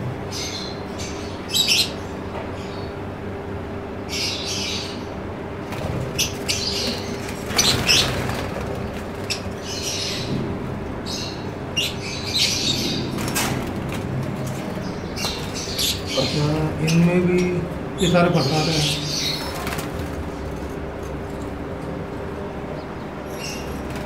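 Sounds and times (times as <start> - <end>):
steady low hum: 0.0 - 24.0
lovebirds chirping and squawking: 0.2 - 24.0.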